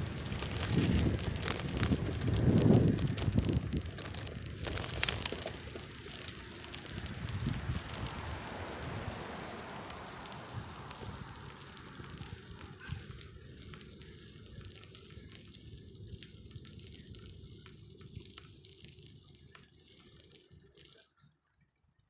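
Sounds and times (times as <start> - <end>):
bicycle riding rush: 0.0 - 22.0
bike clicks and rattles: 0.0 - 22.0.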